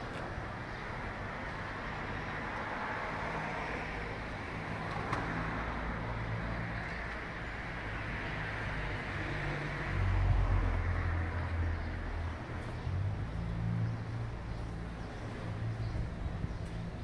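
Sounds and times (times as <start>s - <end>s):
traffic rushing: 0.0s - 17.0s.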